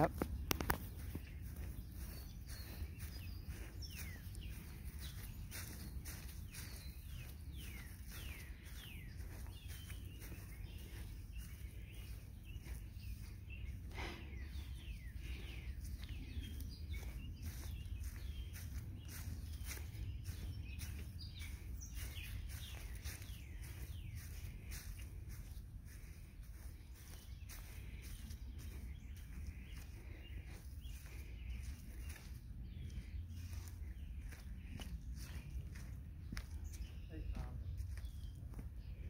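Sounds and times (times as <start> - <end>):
birds whistling: 0.1 - 25.5, 26.5 - 39.0.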